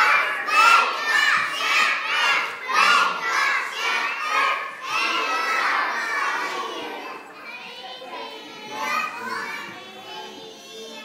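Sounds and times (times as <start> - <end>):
young children calling out: 0.0 - 11.0.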